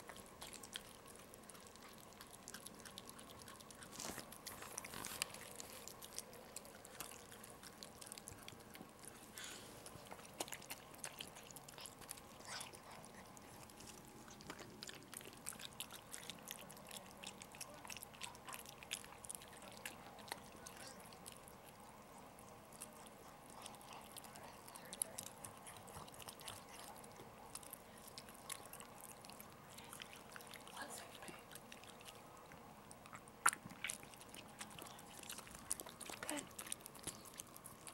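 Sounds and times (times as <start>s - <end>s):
dog licking and smacking: 0.0s - 37.9s.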